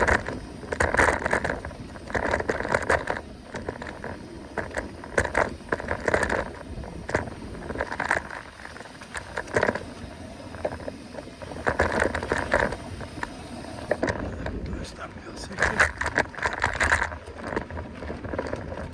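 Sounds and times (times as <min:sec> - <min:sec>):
bike rattling clicks: 0:00.0 - 0:14.8, 0:15.5 - 0:18.9
tyres crackling over dirt and leaves: 0:00.0 - 0:18.9
wind rumble on microphone: 0:00.0 - 0:18.9.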